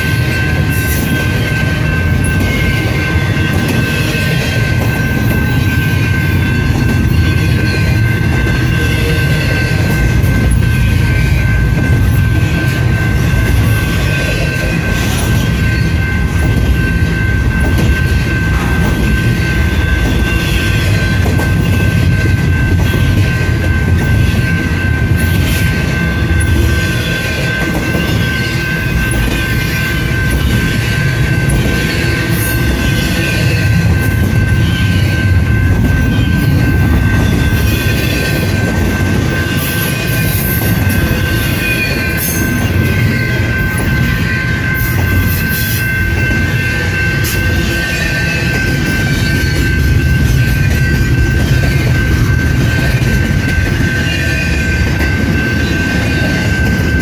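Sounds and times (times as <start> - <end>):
railcars rumbling: 0.0 - 57.0.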